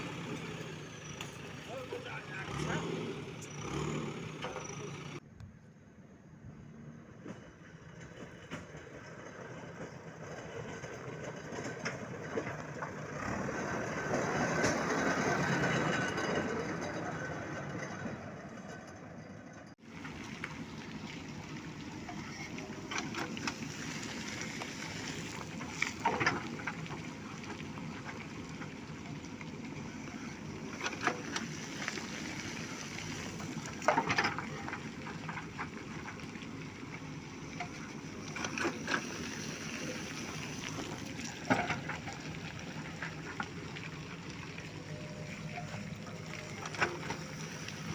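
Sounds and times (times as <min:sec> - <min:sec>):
diesel engine running: 0:00.0 - 0:05.4, 0:06.3 - 0:47.9.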